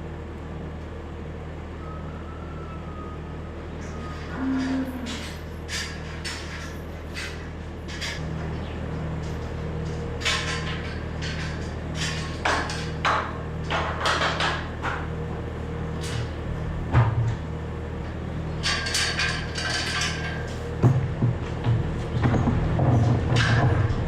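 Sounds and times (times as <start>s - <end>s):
engine running: 0.0s - 24.0s
metallic clanks and rattles: 3.8s - 24.0s.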